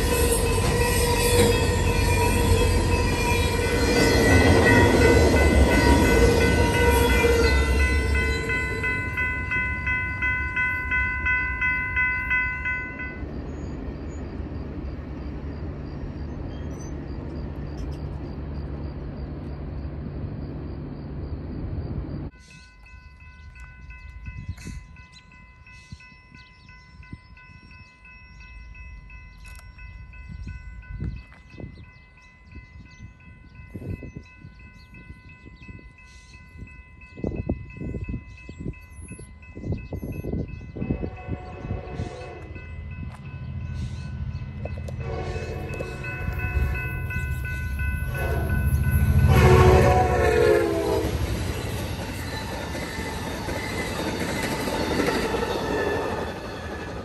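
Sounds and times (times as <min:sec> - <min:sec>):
crossing bell ringing: 0:00.0 - 0:19.4, 0:20.8 - 0:57.0
passing train rumble: 0:00.0 - 0:57.0.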